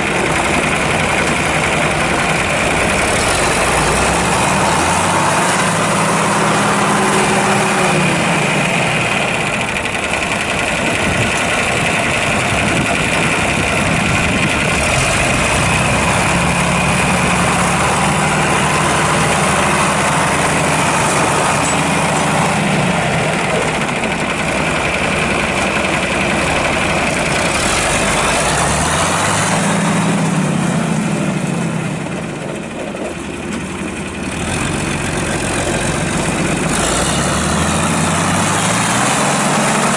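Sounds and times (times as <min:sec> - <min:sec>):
diesel tractor engine revving: 0:00.0 - 0:39.9.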